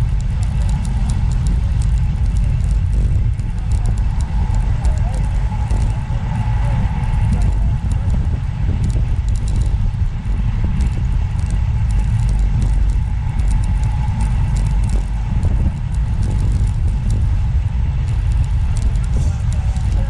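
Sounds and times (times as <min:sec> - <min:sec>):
faint ticks: 0:00.0 - 0:20.0
wind and road rumble: 0:00.0 - 0:20.0.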